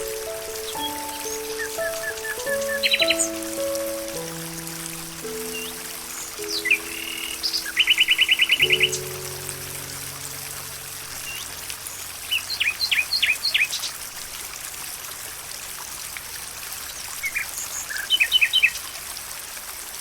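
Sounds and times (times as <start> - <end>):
running water trickling: 0.0 - 20.0.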